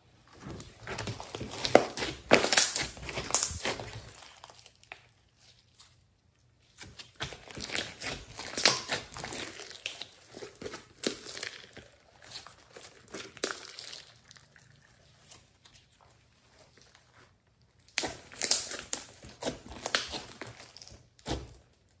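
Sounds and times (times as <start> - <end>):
hands kneading sticky slime: 0.2 - 22.0.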